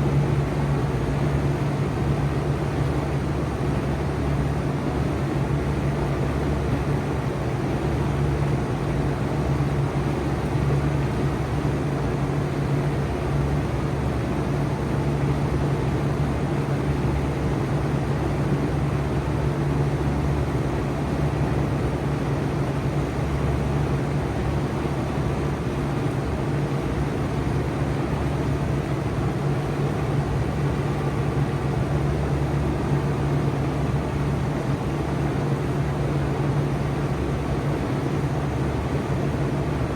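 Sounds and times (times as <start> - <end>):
fan air rushing: 0.0 - 39.9
heat pump humming: 0.0 - 39.9.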